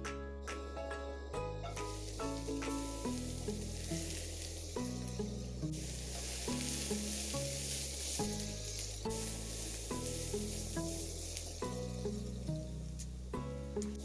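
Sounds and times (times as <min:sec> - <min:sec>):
food sizzling in hot oil: 0:01.7 - 0:14.0.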